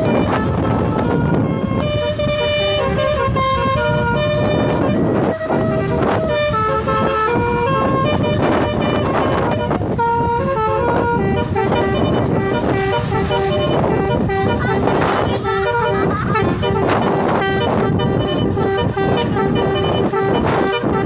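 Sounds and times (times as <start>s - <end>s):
low vehicle rumble: 0.0s - 21.0s
multi-tone horn melody: 0.0s - 21.0s.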